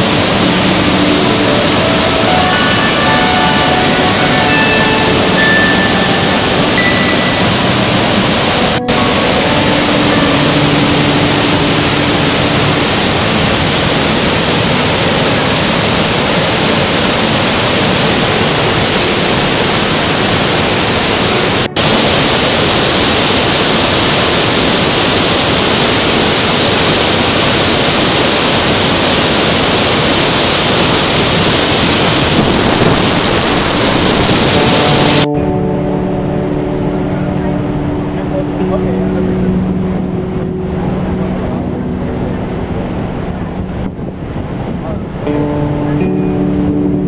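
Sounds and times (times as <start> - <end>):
waterfall and rapids roaring: 0.0 - 47.0.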